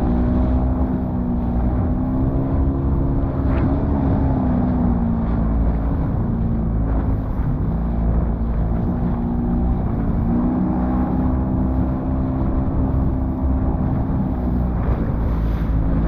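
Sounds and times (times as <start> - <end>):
outboard motor running: 0.0 - 16.0
wind buffeting microphone: 0.0 - 16.0.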